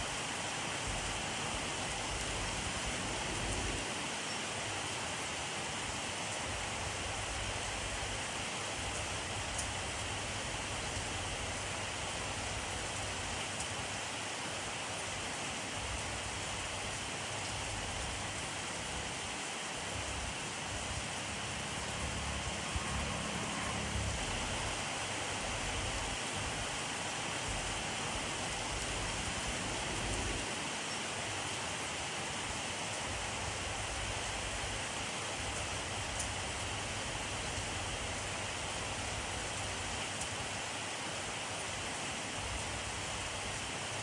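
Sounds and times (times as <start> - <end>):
steady rainfall: 0.0 - 44.0.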